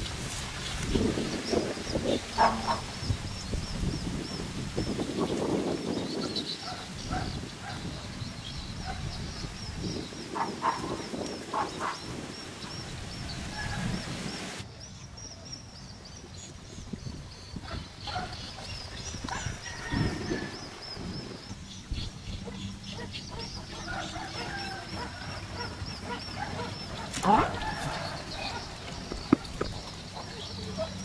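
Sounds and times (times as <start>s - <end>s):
bird calls: 0.0s - 31.0s.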